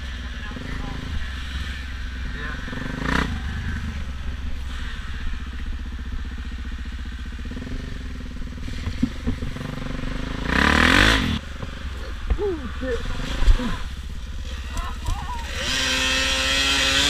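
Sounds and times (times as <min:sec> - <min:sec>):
off-road motorbike engine revving: 0:00.0 - 0:17.0.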